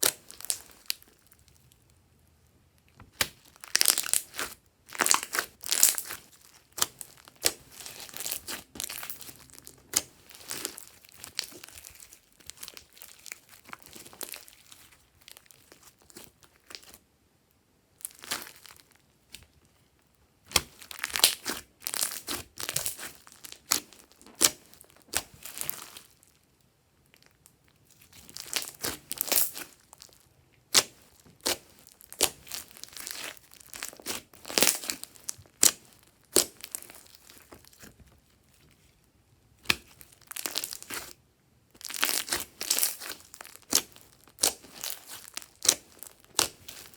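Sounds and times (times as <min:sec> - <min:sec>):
slime squished by hand: 0:00.0 - 0:01.3, 0:03.1 - 0:17.0, 0:18.0 - 0:19.4, 0:20.5 - 0:26.2, 0:28.0 - 0:38.0, 0:39.6 - 0:41.2, 0:41.8 - 0:46.9.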